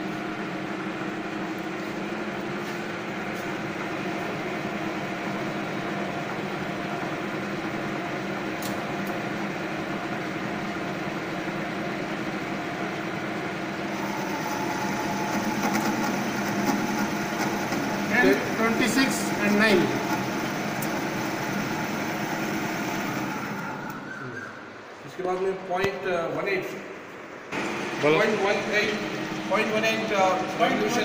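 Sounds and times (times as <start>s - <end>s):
lathe machine hum: 0.0s - 25.1s, 26.7s - 31.0s.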